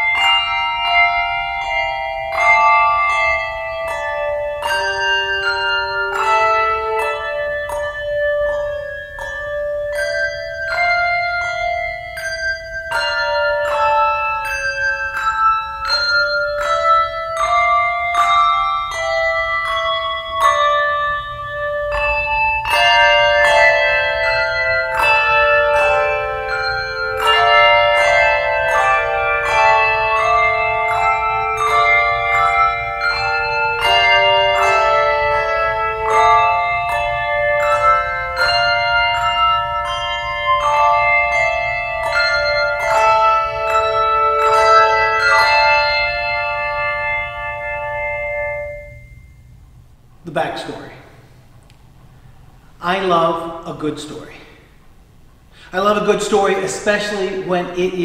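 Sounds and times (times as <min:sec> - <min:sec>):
tuned bells melody: 0:00.0 - 0:58.0.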